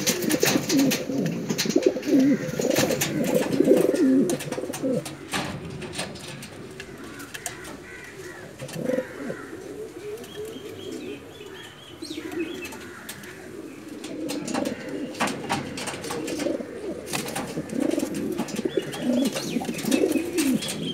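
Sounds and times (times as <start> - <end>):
pigeons cooing: 0.0 - 20.9.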